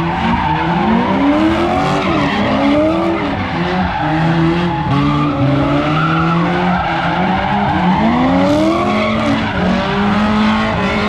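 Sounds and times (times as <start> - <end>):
tyres squealing on pavement: 0.0 - 10.1
car engine revving: 0.0 - 11.0.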